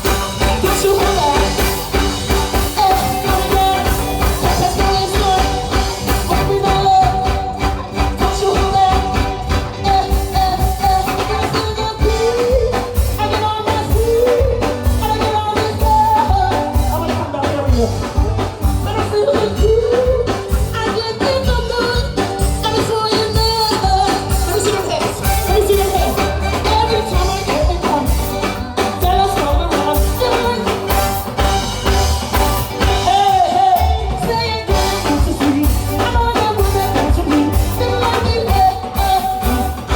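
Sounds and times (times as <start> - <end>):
live band music over a pa: 0.0 - 39.9
person singing: 0.0 - 39.9.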